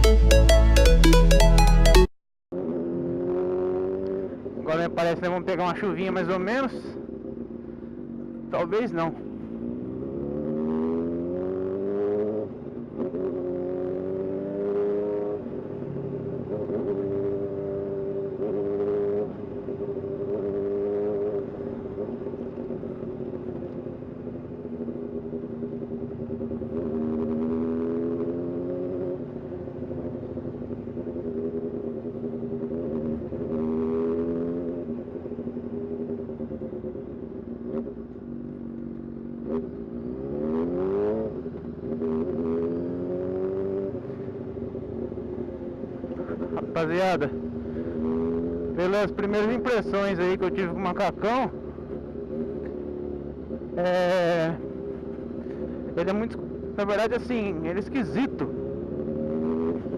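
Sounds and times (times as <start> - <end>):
motorcycle engine running: 2.5 - 59.9.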